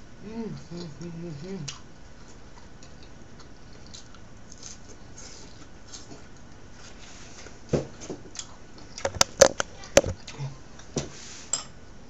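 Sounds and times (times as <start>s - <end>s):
soft chewing and mouth noises: 0.4s - 11.0s.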